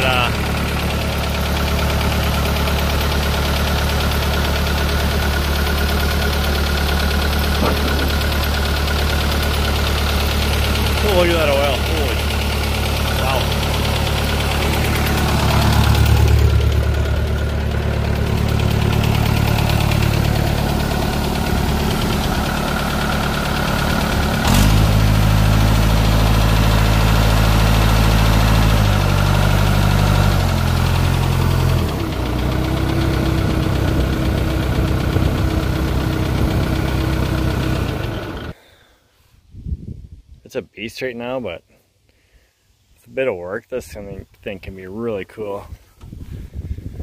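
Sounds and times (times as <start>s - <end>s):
loader engine running: 0.0s - 38.6s.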